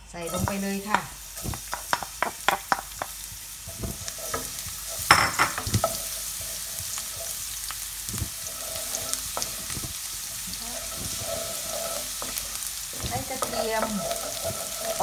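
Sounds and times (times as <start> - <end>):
garlic sizzling in hot oil: 0.0 - 15.0
wooden spatula knocking and scraping pan: 0.3 - 7.5, 8.2 - 15.0.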